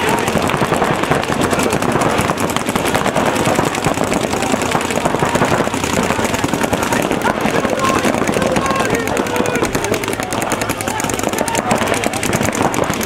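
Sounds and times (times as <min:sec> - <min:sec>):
paintball markers firing rapidly: 0:00.0 - 0:13.0.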